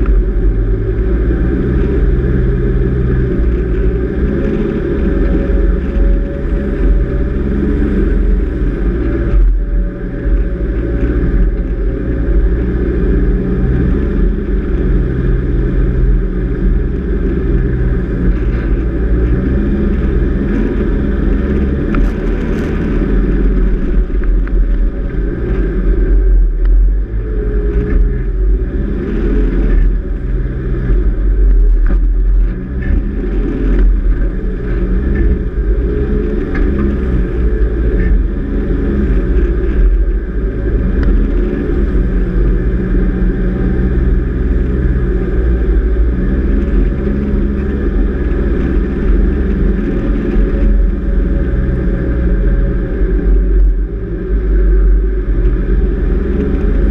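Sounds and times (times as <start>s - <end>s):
vehicle driving on sand: 0.0s - 56.9s.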